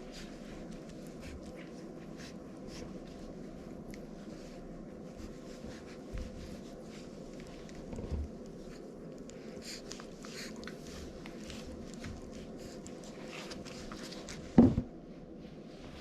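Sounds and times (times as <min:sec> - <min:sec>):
puppies scratching and shuffling: 0:00.0 - 0:16.0.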